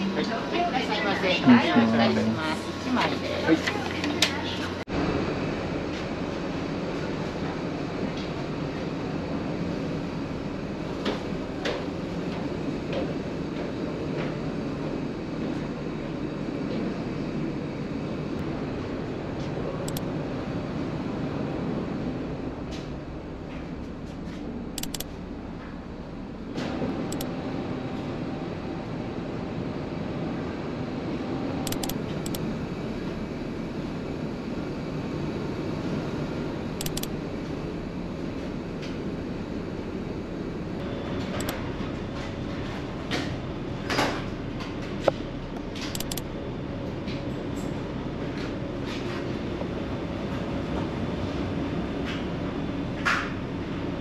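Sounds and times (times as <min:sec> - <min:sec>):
ship engine rumble: 0:00.0 - 0:54.0.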